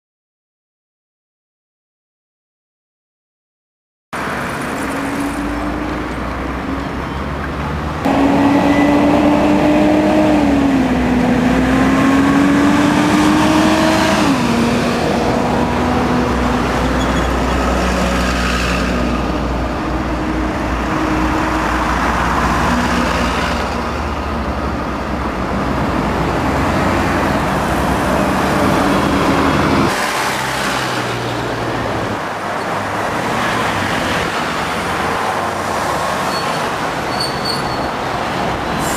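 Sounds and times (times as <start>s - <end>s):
bus engine rumble: 4.2s - 38.9s.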